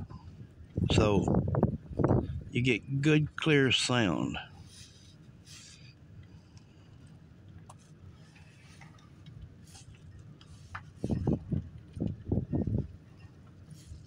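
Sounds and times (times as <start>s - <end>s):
car rolling slowly: 0.0s - 14.0s.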